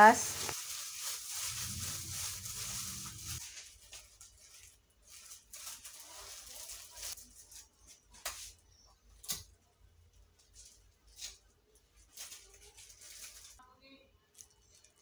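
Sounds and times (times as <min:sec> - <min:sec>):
plastic gloves and bags rustling: 0:00.0 - 0:08.9, 0:10.2 - 0:13.7, 0:14.3 - 0:15.0.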